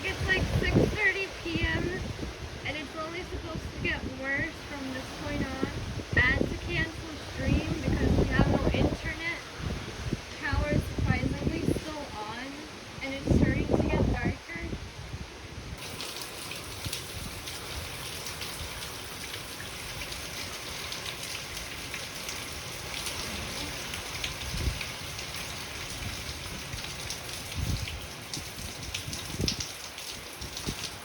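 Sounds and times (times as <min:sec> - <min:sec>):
heavy rain falling: 0:00.0 - 0:14.4, 0:15.8 - 0:31.0.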